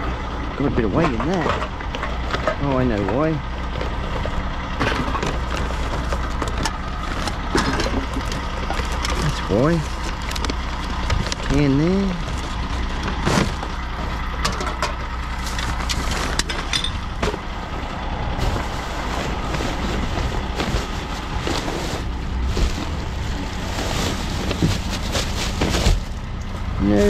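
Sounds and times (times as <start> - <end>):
vehicle engine idling: 0.0 - 27.0
bags rustling and crinkling: 3.7 - 14.3, 15.2 - 27.0.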